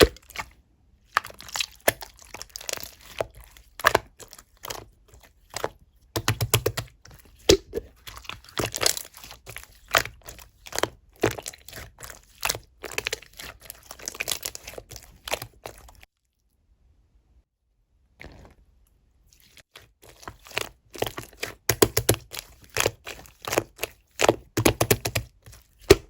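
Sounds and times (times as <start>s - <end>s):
slime crackling and squelching: 0.0s - 16.1s, 19.3s - 26.0s.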